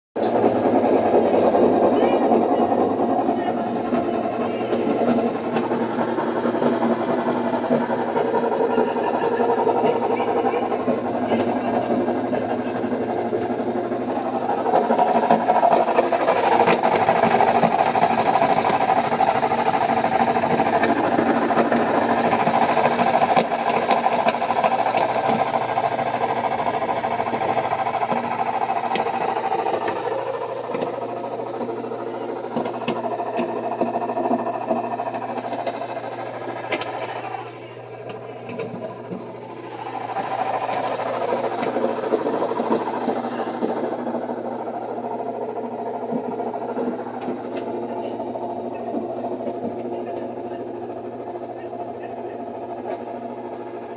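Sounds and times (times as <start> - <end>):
washing machine spinning: 0.2 - 53.9.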